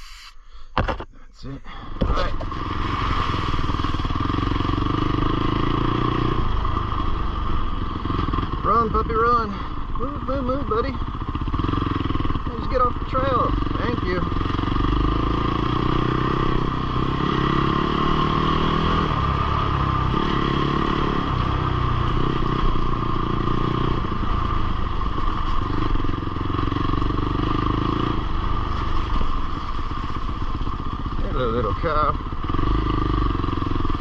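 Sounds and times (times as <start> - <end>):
motorcycle engine revving: 2.0 - 34.0.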